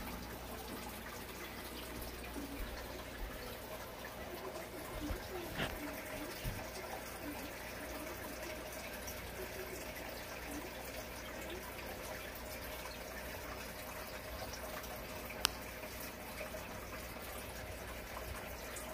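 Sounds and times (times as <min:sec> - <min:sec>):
aquarium water bubbling: 0:00.0 - 0:18.9
faint steady hum: 0:00.0 - 0:18.9.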